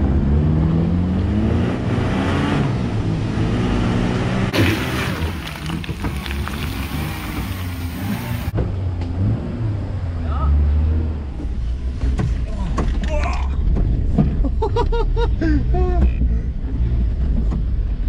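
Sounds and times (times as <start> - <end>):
off-road engines revving: 0.0 - 14.6.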